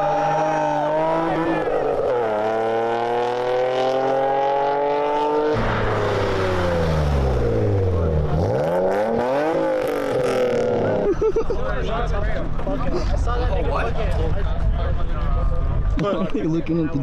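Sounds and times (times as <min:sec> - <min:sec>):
car engines revving: 0:00.0 - 0:14.7.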